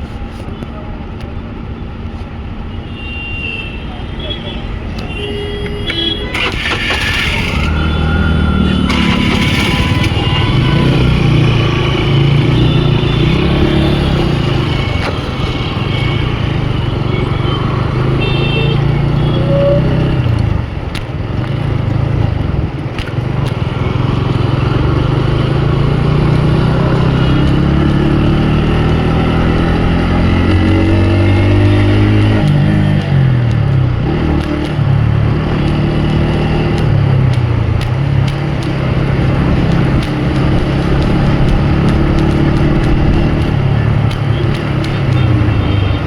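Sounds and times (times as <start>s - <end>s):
road and wind noise: 0.0s - 46.0s
motorcycle engine accelerating: 6.0s - 46.0s.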